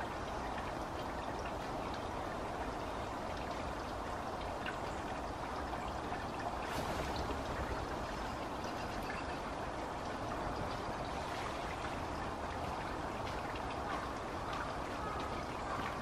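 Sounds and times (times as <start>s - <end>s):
small drip-like ticks: 0.0s - 16.0s
stream water rushing: 0.0s - 16.0s.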